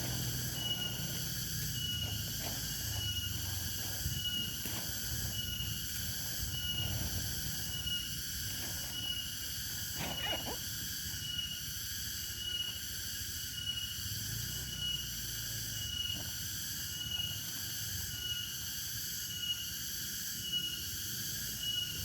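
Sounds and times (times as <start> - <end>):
buzzing insect chorus: 0.0 - 22.0
short high insect chirp: 0.0 - 22.0.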